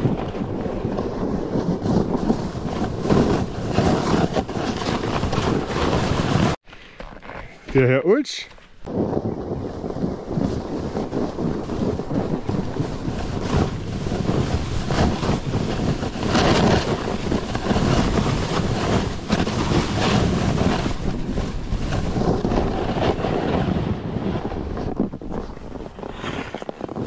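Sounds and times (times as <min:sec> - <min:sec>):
wind buffeting microphone: 0:00.0 - 0:06.6, 0:07.6 - 0:27.0.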